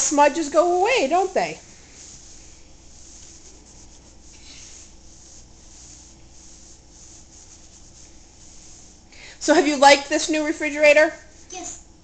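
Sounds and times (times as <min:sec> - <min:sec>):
wet rag wiping: 0:00.0 - 0:11.6.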